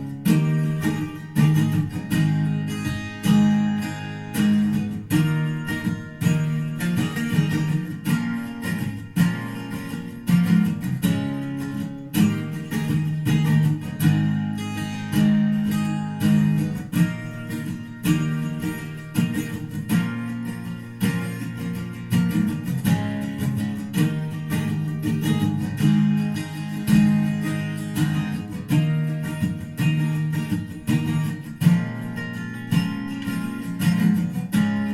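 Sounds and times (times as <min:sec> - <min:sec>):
strummed acoustic guitar music: 0:00.0 - 0:34.9.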